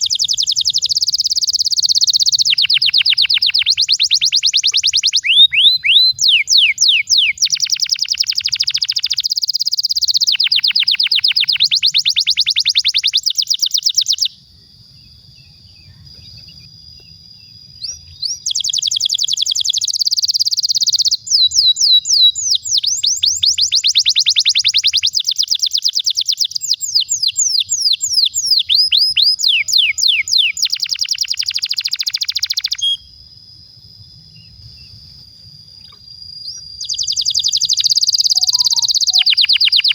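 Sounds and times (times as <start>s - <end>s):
canary singing trills: 0.0s - 33.1s, 35.8s - 39.9s
faint thin steady whistle: 0.0s - 39.9s.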